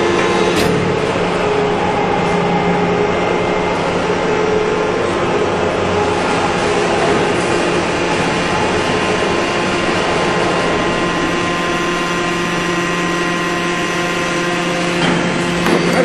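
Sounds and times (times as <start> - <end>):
hydraulic power unit hum and whine: 0.0 - 16.0.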